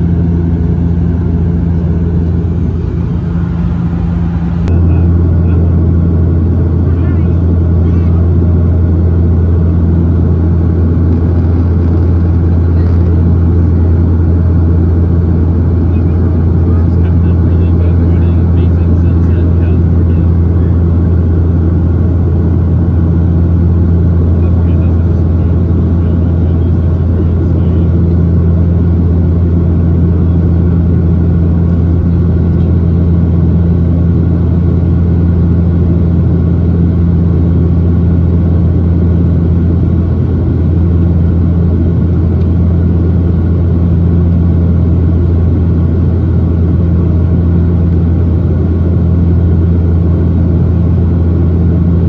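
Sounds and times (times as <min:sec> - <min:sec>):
turboprop engine drone in cabin: 0:00.0 - 0:52.0.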